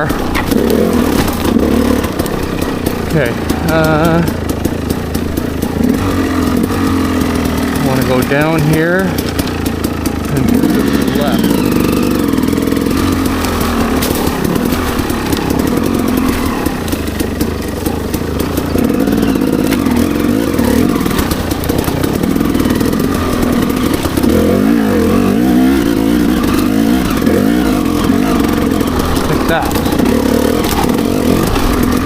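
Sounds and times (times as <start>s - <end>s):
bike knocks and rattles: 0.0s - 32.0s
dirt bike engine revving: 0.0s - 32.0s.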